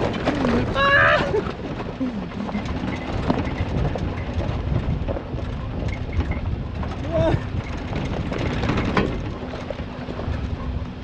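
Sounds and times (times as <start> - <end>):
vehicle rattling over rough track: 0.0 - 11.0.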